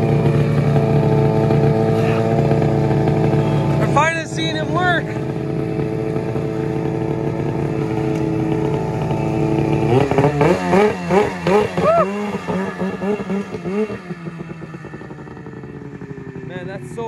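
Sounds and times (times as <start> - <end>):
snowmobile engine idling and revving: 0.0 - 17.0.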